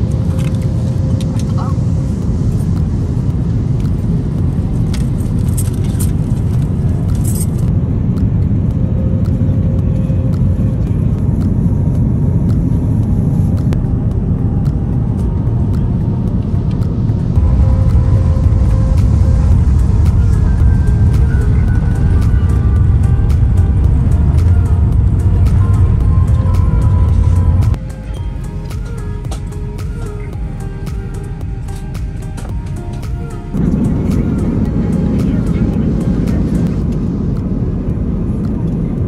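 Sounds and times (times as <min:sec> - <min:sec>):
car road and engine rumble: 0:00.0 - 0:39.0.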